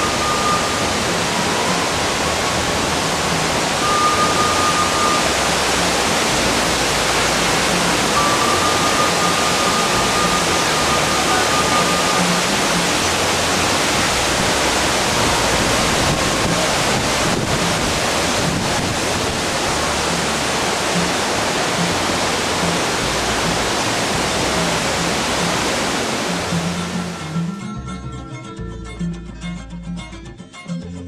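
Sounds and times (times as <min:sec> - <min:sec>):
stream water rushing over rocks: 0:00.0 - 0:27.6.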